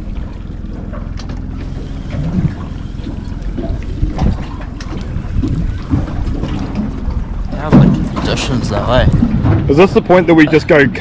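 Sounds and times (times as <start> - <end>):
boat low rumble: 0.0 - 11.0
wind on microphone: 2.0 - 11.0.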